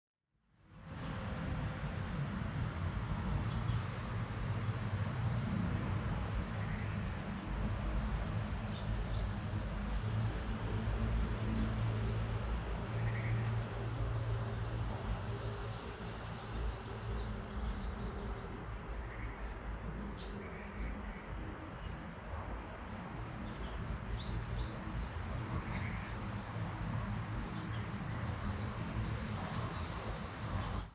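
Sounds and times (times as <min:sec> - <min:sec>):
insects buzzing: 0:01.0 - 0:30.9.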